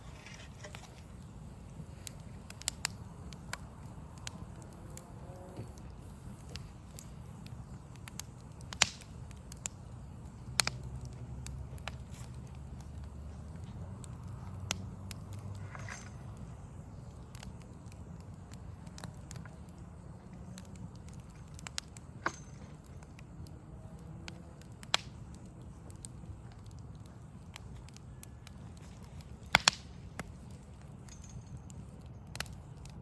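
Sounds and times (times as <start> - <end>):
low rumble of city background: 0.0 - 33.0
wood fire crackling and popping: 0.0 - 33.0.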